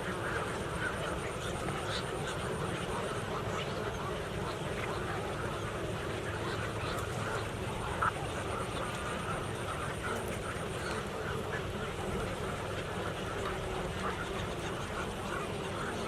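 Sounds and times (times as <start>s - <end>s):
many birds calling: 0.0s - 16.0s.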